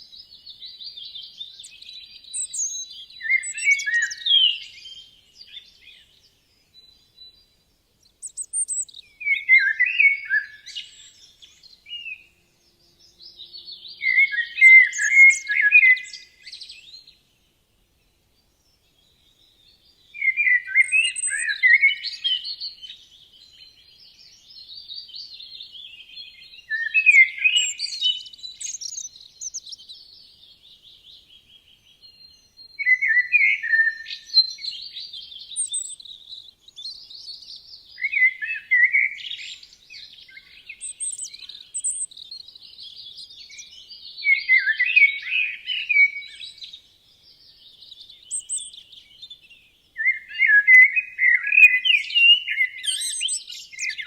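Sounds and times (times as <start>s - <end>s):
soft high bird chirps: 0.0s - 17.3s, 18.0s - 54.0s
songbirds warbling: 0.0s - 54.0s.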